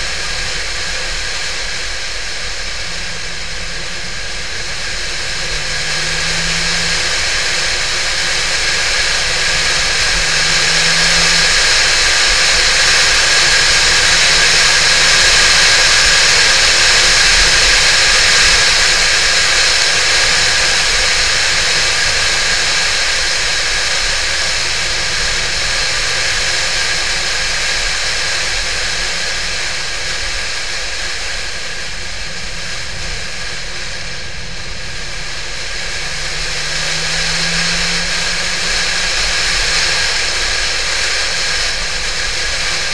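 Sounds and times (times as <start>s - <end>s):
faint car engine: 0.0s - 42.9s
wind and road rush: 0.0s - 42.9s.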